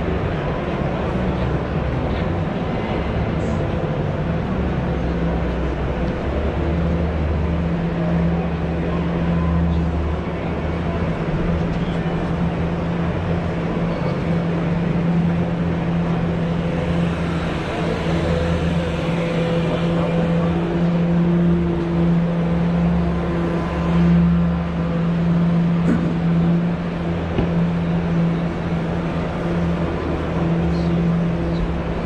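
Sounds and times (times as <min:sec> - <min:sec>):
faint crowd chatter: 0:00.0 - 0:32.0.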